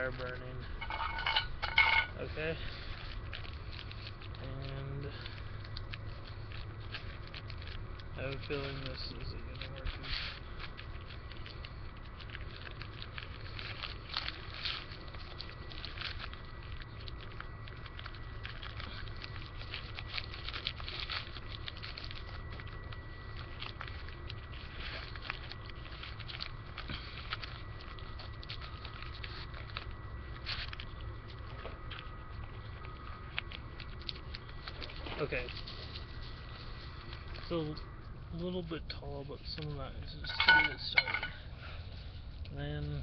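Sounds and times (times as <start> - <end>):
newspaper crinkling and rustling: 2.2 - 37.7.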